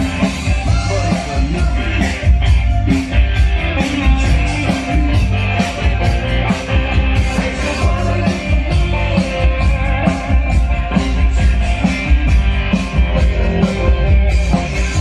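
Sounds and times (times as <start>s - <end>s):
loud rock music over speakers: 0.0s - 15.0s.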